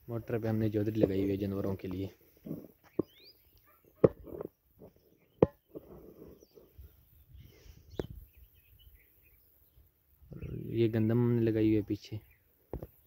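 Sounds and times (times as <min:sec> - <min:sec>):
faint bird chirps: 0:01.1 - 0:13.0.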